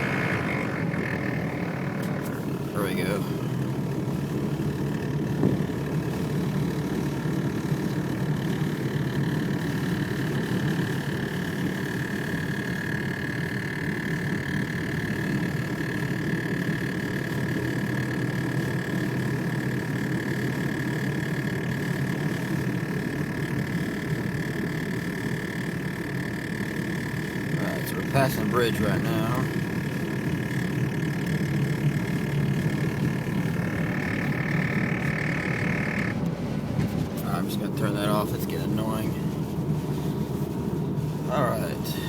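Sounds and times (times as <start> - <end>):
blower motor whine: 0.0 - 42.0
car driving rumble: 0.0 - 42.0.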